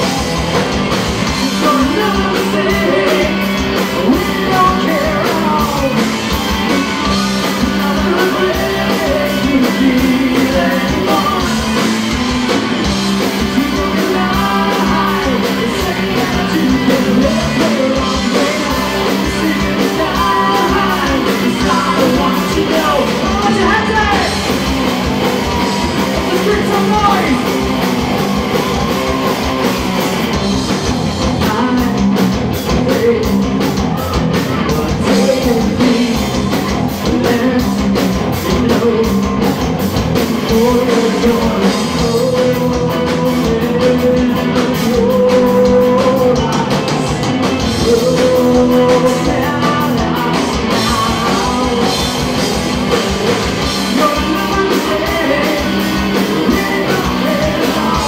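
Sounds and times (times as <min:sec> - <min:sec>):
drum kit: 0:00.0 - 0:58.0
electric guitar: 0:00.0 - 0:58.0
person singing: 0:01.3 - 0:12.4, 0:13.2 - 0:27.8, 0:31.2 - 0:58.0.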